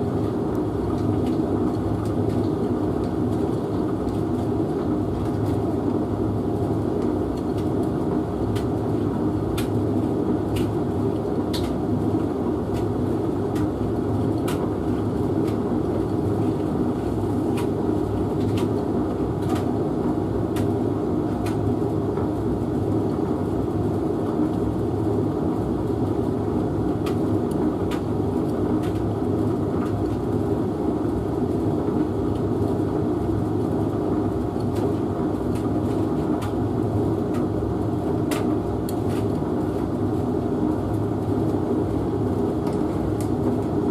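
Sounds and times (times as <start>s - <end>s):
washing machine and dryer humming: 0.0s - 43.9s.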